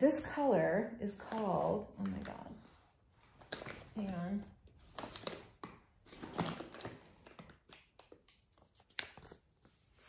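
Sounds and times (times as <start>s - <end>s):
paper rustling: 1.2s - 10.0s.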